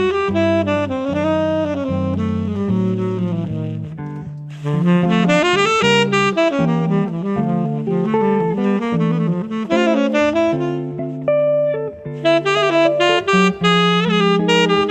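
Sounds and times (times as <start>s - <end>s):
jazz band backing: 0.0s - 14.9s
saxophone solo: 0.0s - 14.9s.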